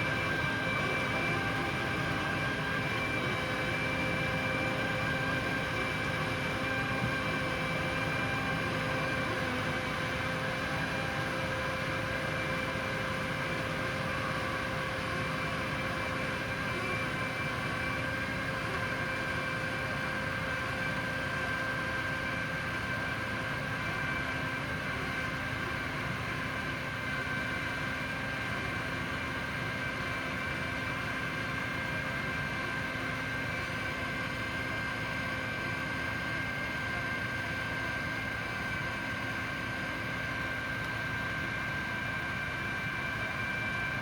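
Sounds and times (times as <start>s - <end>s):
steady whining tones: 0.0s - 44.0s.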